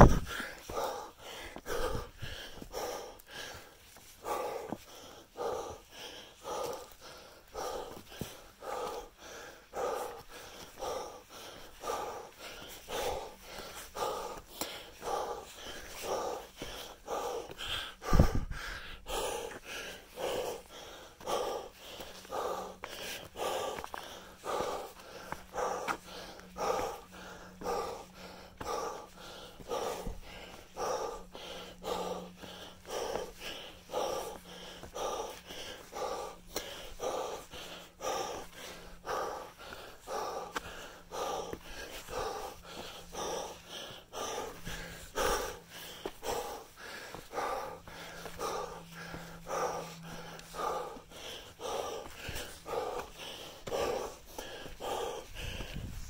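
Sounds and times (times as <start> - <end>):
person breathing hard: 0.0 - 56.0.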